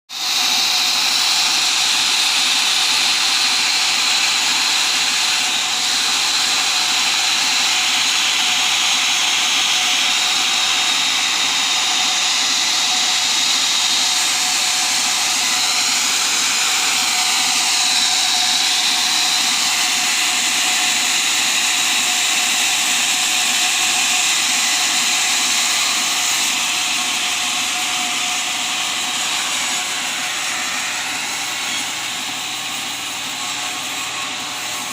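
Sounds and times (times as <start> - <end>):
sawmill saw whining: 0.1 - 34.9.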